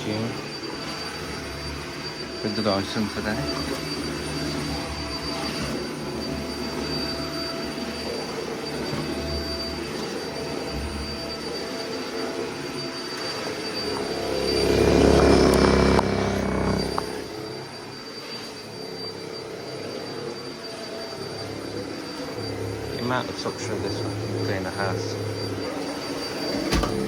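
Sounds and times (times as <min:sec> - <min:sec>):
vacuum cleaner on carpet: 0:00.0 - 0:27.0.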